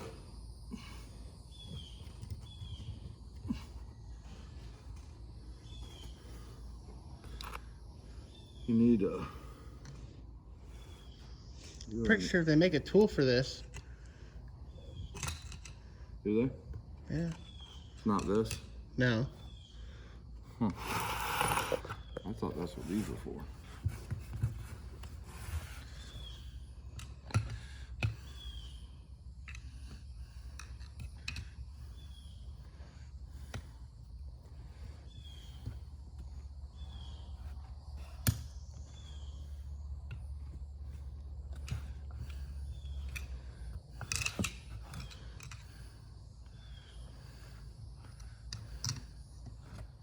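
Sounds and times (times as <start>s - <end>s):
young birds chirping: 0.7s - 16.4s, 17.1s - 24.6s, 25.5s - 48.9s.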